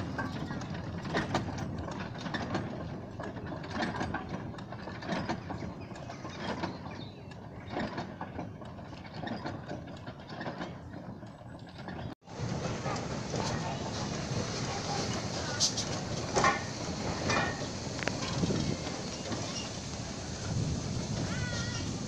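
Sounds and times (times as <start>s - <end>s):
steam locomotive rods clanking: 0.0s - 22.0s.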